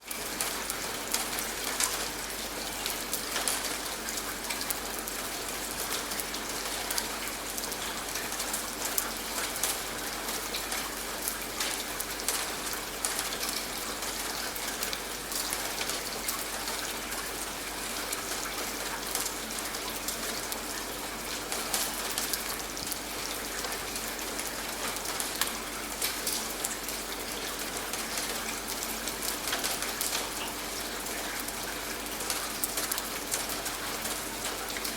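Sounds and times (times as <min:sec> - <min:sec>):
steady rain: 0:00.0 - 0:34.9
raindrops ticking: 0:00.1 - 0:34.9.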